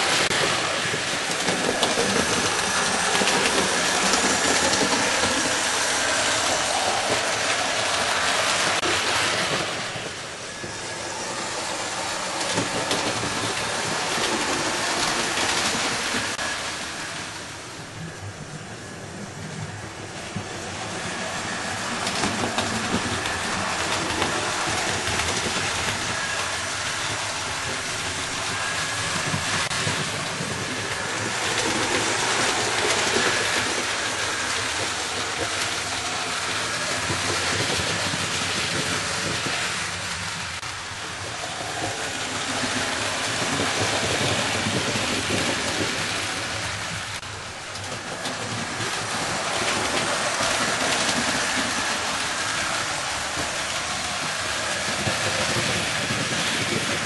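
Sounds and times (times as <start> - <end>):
model train wheels rumbling on track: 0.0 - 57.0.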